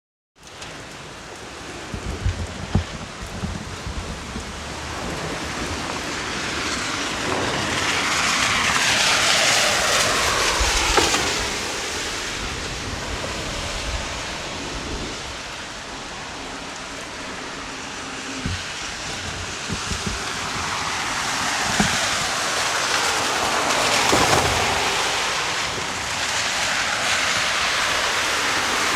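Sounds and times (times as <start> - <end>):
heavy rain: 0.4 - 28.9.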